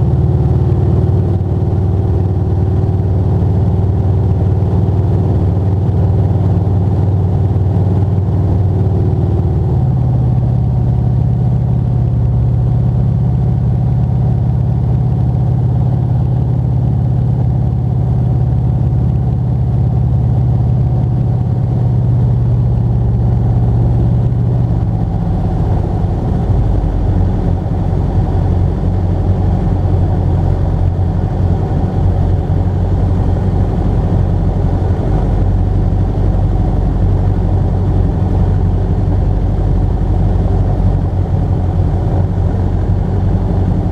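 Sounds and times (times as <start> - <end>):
motor glider engine and propeller drone: 0.0 - 43.9.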